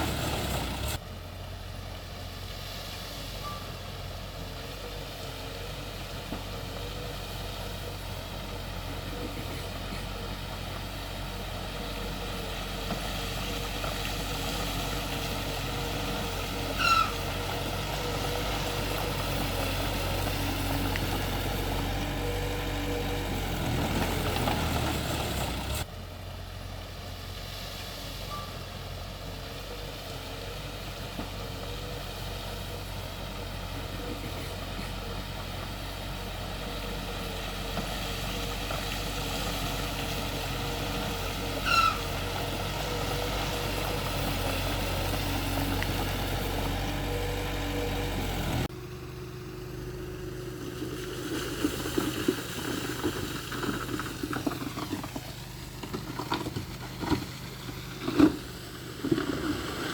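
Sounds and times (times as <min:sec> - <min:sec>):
engine knocks and clatter: 0:00.0 - 0:59.9
heavy machinery diesel engine running: 0:00.0 - 0:59.9.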